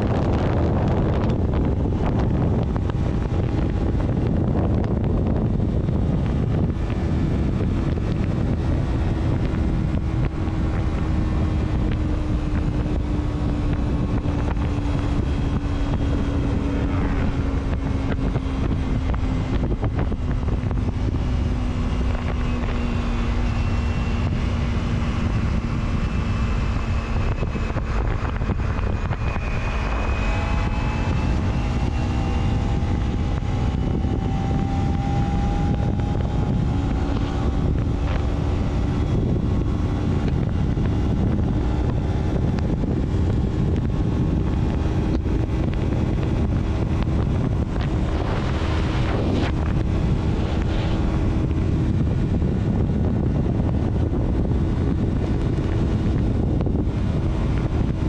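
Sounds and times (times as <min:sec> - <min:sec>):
vehicle engine and road noise: 0:00.0 - 0:58.0
wind on microphone: 0:00.0 - 0:58.0.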